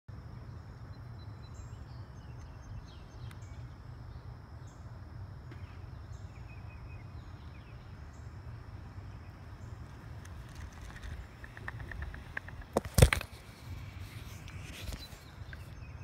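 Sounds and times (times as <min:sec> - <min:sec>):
faint high whine: 0:00.1 - 0:16.0
birds chirping: 0:00.2 - 0:16.0.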